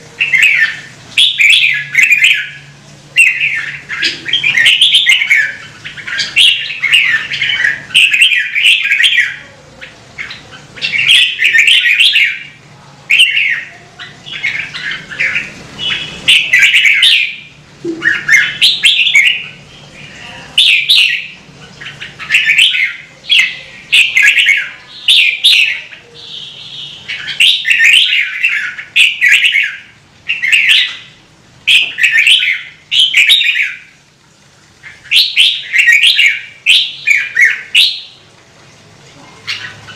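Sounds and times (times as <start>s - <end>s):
bird singing warbled phrases: 0.0s - 34.1s, 34.8s - 38.3s, 39.1s - 39.9s.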